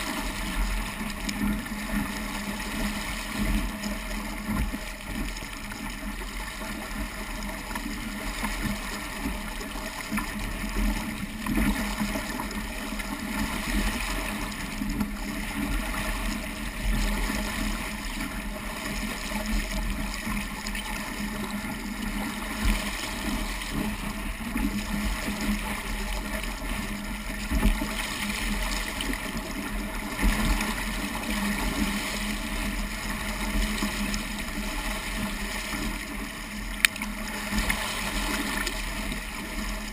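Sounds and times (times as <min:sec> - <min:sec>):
water rushing along a boat hull: 0:00.0 - 0:39.9.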